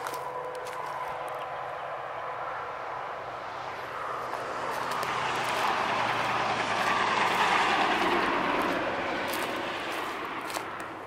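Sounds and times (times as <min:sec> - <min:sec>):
vehicle passing on highway: 0:00.0 - 0:11.0.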